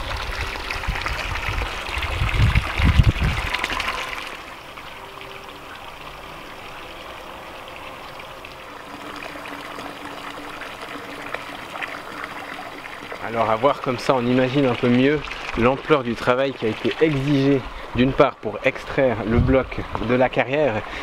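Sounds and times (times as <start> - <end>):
fountain water splashing into trough: 0.0 - 21.0.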